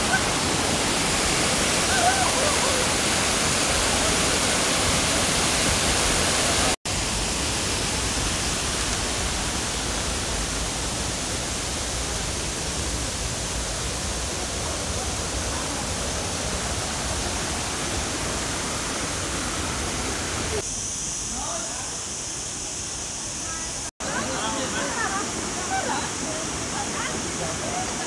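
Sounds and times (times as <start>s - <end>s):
waterfall rushing: 0.0s - 20.6s, 23.3s - 28.0s.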